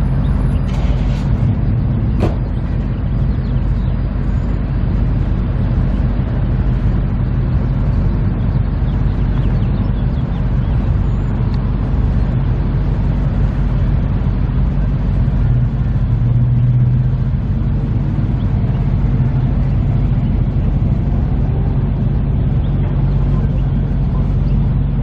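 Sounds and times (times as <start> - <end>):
car engine rumble: 0.0 - 25.0.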